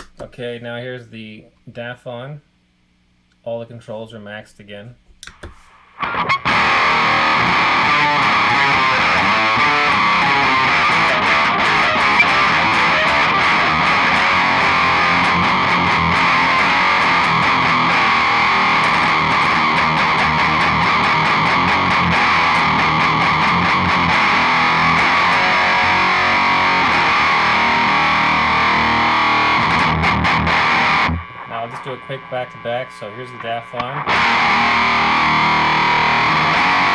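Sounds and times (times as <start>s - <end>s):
distorted electric guitar riff: 6.0s - 36.9s.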